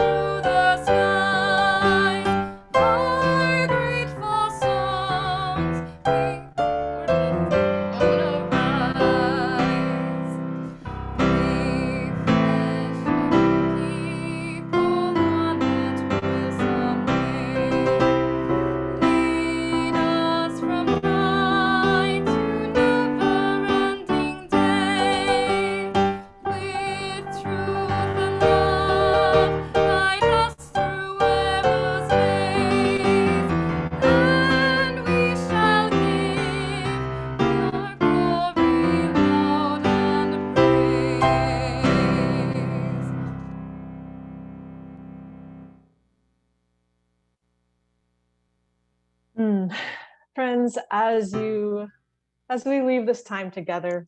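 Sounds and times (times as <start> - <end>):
person singing with vibrato: 0.0 - 43.4
piano music: 0.0 - 45.8.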